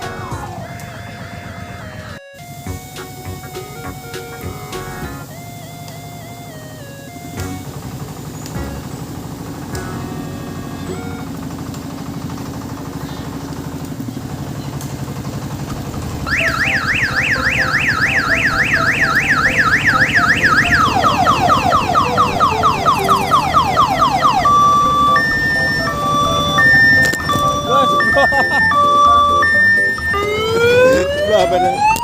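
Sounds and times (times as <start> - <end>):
electronic siren: 0.0 - 11.6, 16.0 - 32.0
diesel engine running: 0.0 - 32.0.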